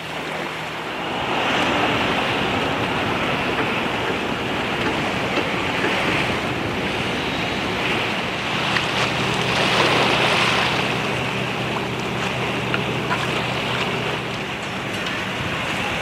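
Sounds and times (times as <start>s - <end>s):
boat engine hum: 0.0s - 16.0s
water lapping against quay: 0.0s - 16.0s
wind on microphone: 0.0s - 16.0s.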